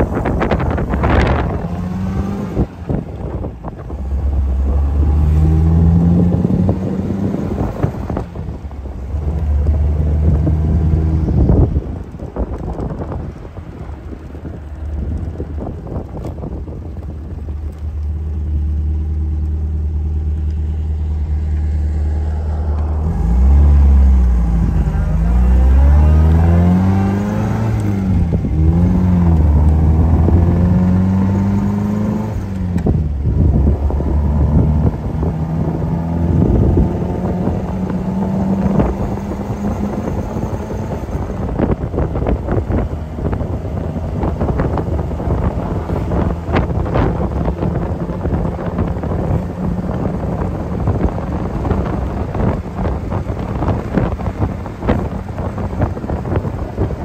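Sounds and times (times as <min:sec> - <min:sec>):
car engine revving through gears: 0:00.0 - 0:13.4, 0:17.7 - 0:57.0.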